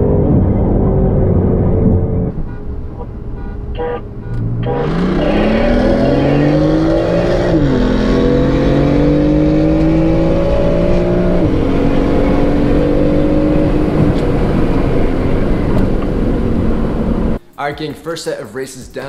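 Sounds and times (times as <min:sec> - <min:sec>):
car engine accelerating: 0:00.0 - 0:17.4.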